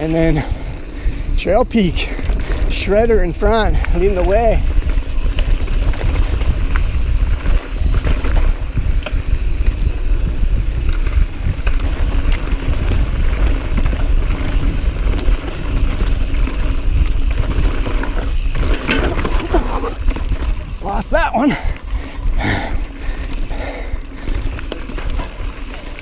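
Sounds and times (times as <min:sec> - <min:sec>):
bike rattling over bumps: 0:00.0 - 0:26.0
wind buffeting microphone: 0:00.0 - 0:26.0
tyres crunching on dirt: 0:01.5 - 0:22.2, 0:22.8 - 0:26.0.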